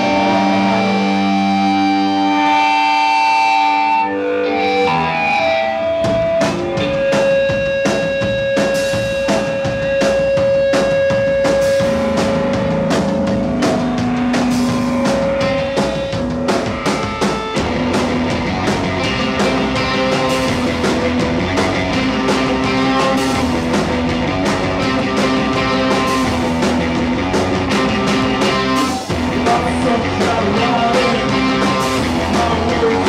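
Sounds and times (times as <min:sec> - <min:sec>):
electric guitar playing: 0:00.0 - 0:33.0
drum kit beating: 0:04.5 - 0:33.0.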